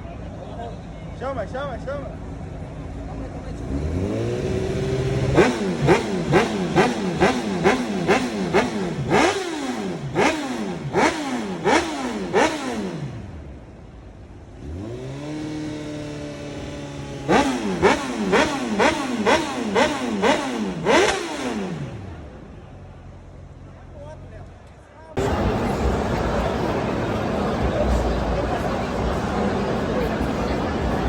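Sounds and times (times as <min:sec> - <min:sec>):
motorcycle engine revving: 0:02.2 - 0:23.5, 0:25.2 - 0:31.0.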